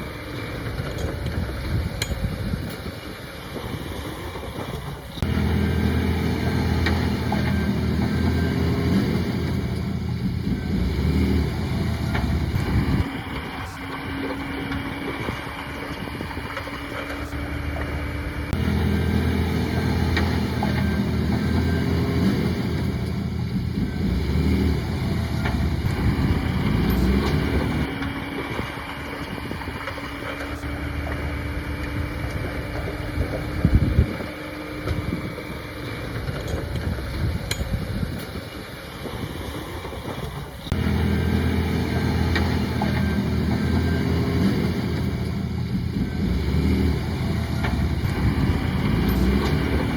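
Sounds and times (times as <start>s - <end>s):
heavy diesel engine working: 0.0s - 49.9s.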